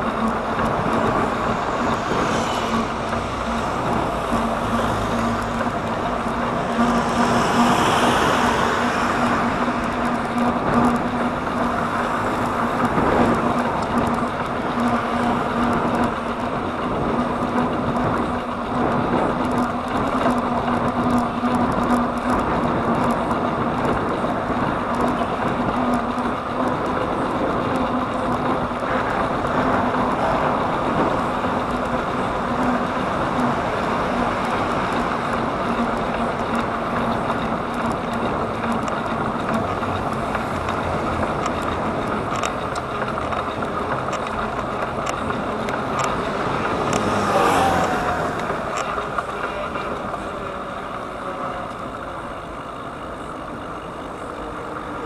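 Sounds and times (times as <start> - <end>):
wind and road noise of bicycle: 0.0 - 55.0.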